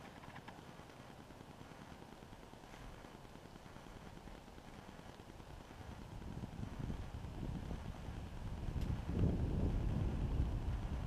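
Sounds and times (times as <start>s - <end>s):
faint rustling: 0.0s - 9.9s
wind rumbling on microphone: 0.0s - 11.0s.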